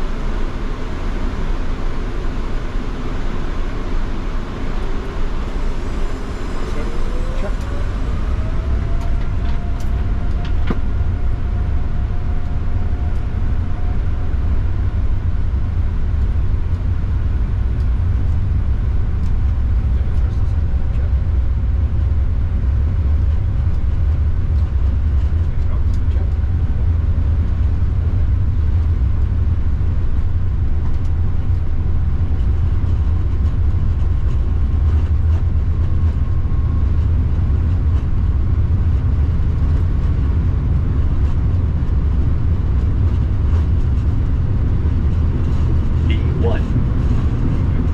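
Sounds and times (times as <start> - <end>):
airflow rumble: 0.0 - 47.9.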